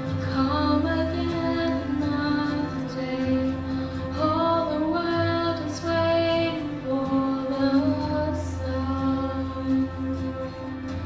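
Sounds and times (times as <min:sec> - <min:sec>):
girl singing into a microphone: 0:00.1 - 0:10.3.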